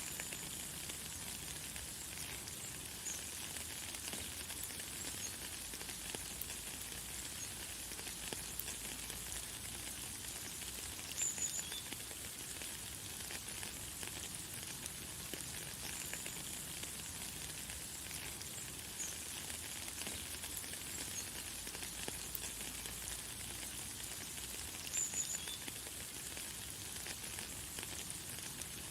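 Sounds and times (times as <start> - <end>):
light rain falling: 0.0 - 28.9.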